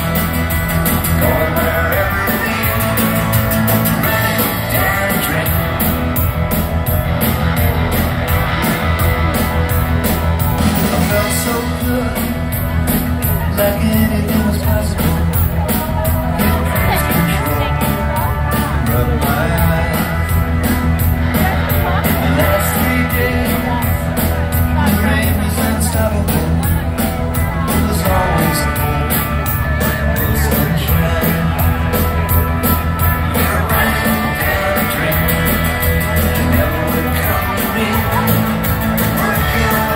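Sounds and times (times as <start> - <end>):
live rock band playing: 0.0 - 39.9
steady drum beat: 0.0 - 39.9.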